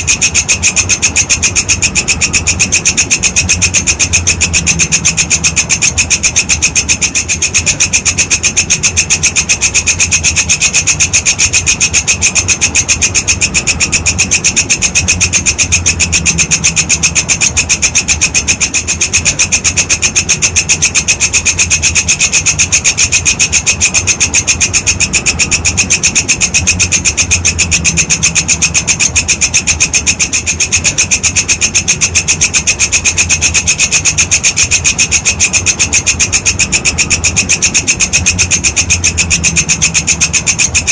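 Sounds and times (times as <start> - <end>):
insect rasping call: 0.0 - 40.9.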